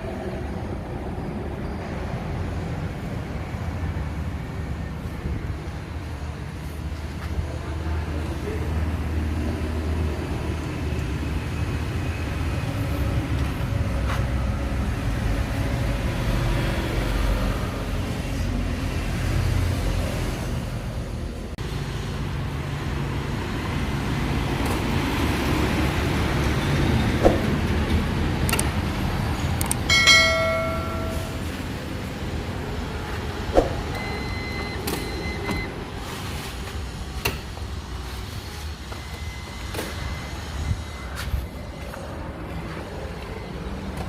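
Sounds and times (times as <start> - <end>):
motor vehicle rumble: 0.0 - 44.0.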